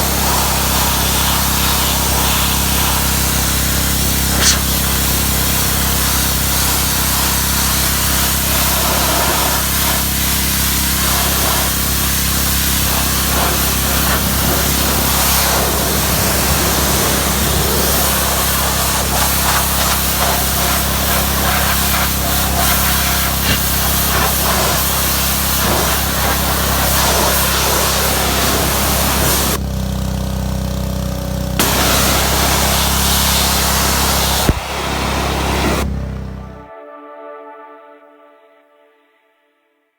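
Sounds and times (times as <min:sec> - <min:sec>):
pressure washer water jet hiss: 0:00.0 - 0:30.0, 0:31.6 - 0:36.3
pressure washer machine hum: 0:00.0 - 0:36.7.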